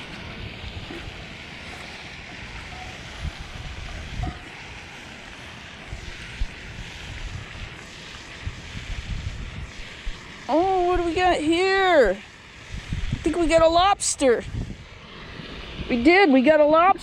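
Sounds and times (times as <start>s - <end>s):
wind buffeting microphone: 0.0s - 5.0s, 5.7s - 17.0s.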